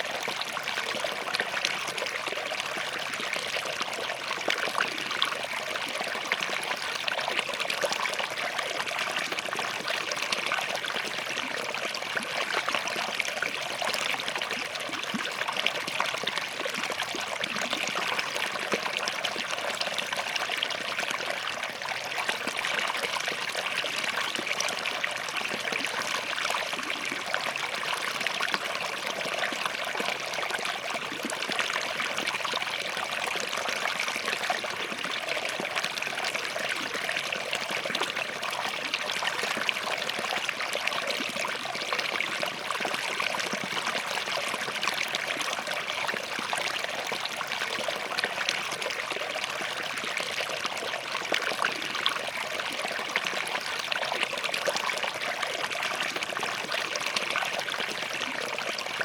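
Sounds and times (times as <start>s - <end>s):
stream trickling over rocks: 0.0s - 59.0s.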